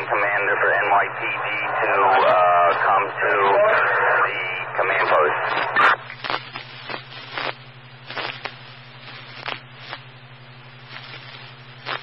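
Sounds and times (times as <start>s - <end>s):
low hum: 0.0s - 12.0s
radio static hiss: 0.0s - 12.0s
static clicks and crackles: 0.0s - 12.0s.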